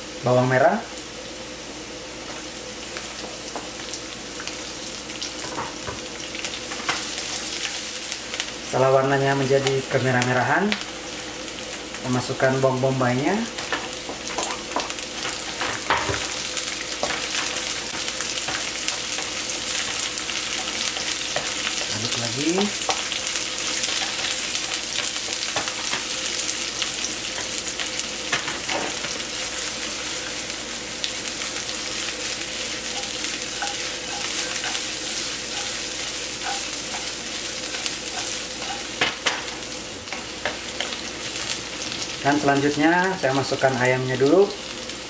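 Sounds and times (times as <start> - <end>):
onion sizzling in hot oil: 0.0 - 45.0.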